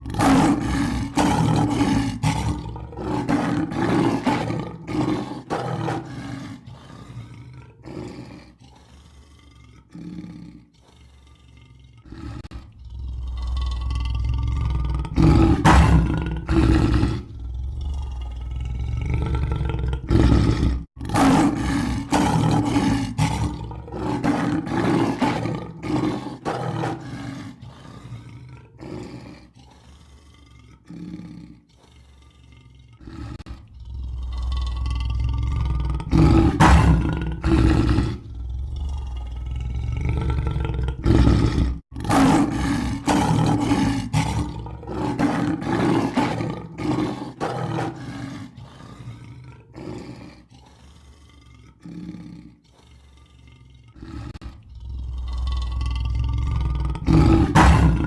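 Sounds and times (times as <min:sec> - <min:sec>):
lion deep rumbling roar: 0:00.0 - 0:58.0
lion grunting roars: 0:00.0 - 0:58.0.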